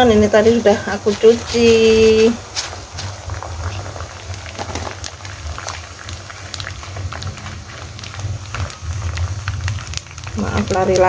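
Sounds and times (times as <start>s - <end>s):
low steady rumble: 0.0s - 11.0s
water boiling and bubbling: 0.0s - 11.0s
wooden spatula stirring: 0.0s - 11.0s.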